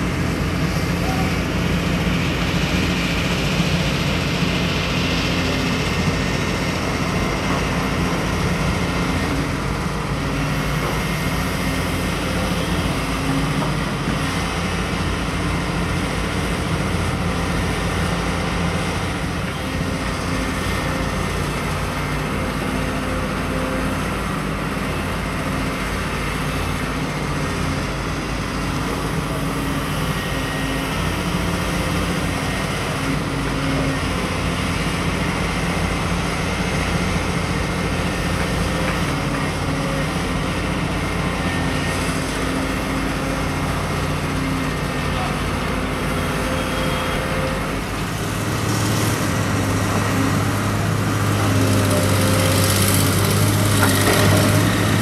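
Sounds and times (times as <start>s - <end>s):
excavator diesel engines droning: 0.0s - 55.0s.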